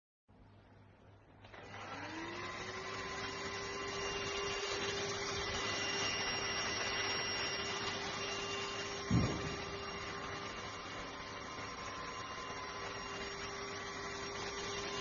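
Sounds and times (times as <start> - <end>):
vacuum cleaner motor whine: 1.4 - 15.0.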